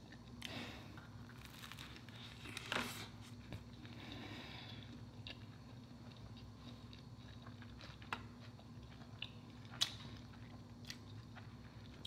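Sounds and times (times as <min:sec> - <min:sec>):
chewing soft food: 0:00.0 - 0:12.0
faint steady hum: 0:00.0 - 0:12.0.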